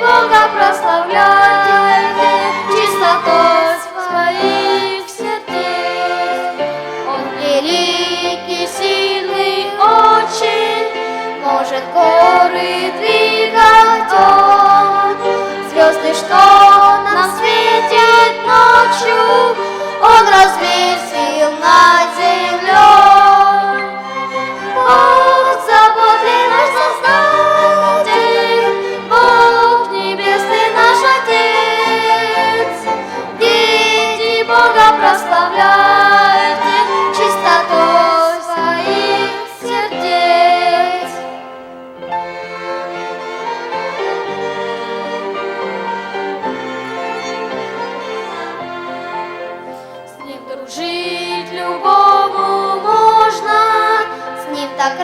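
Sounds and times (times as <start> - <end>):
children's choir singing: 0.0 - 55.0
orchestra with violins: 0.0 - 55.0.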